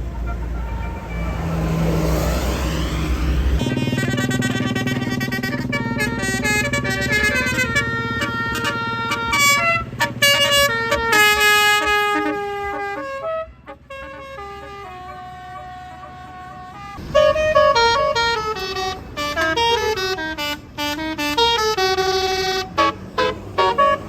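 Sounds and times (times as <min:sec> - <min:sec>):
bus engine hum: 0:00.0 - 0:24.0
musical air horn melody: 0:03.0 - 0:24.0.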